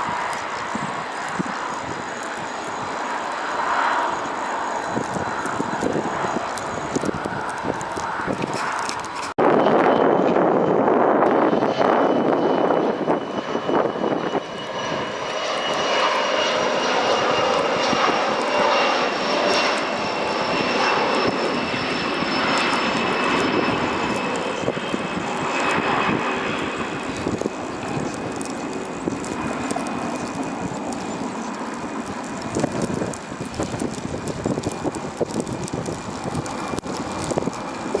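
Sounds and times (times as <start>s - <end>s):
jet engines whining and rushing: 0.0s - 38.0s.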